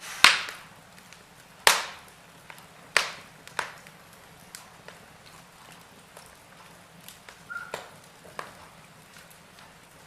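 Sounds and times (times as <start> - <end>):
fireplace fire crackling: 0.0 - 10.0
sharp pops of fire: 0.0 - 10.0.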